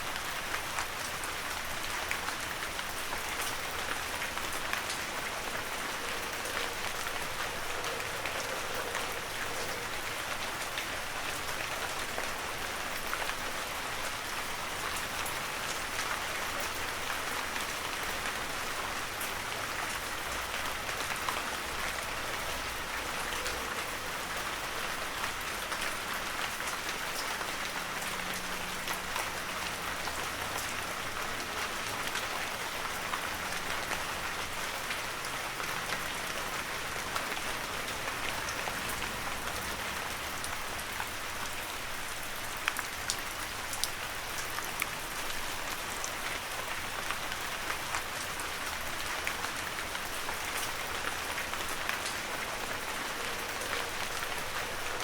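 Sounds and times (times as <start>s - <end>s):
heavy rain falling: 0.0s - 55.0s
raindrops pattering on surfaces: 0.0s - 55.0s.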